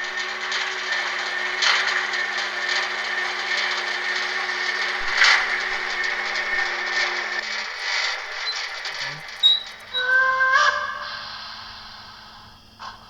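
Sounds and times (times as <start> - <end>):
model steam locomotive whirring: 0.0 - 13.0.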